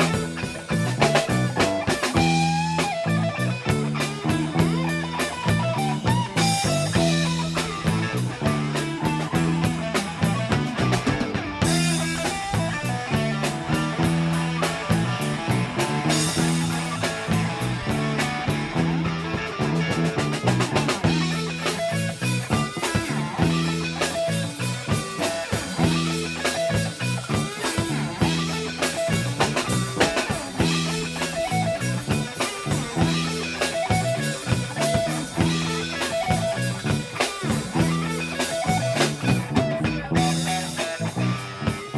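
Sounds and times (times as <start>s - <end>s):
drum kit: 0.0s - 41.9s
electric guitar: 0.0s - 41.9s
low bass riff: 0.0s - 41.9s.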